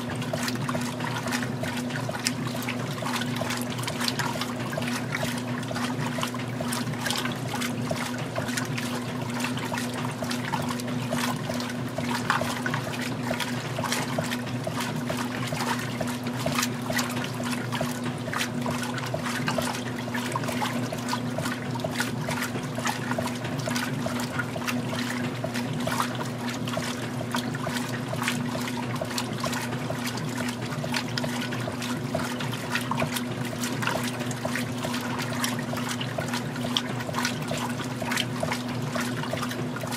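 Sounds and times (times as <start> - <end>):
washer motor hum: 0.0 - 39.9
water sloshing in washer: 0.0 - 39.9.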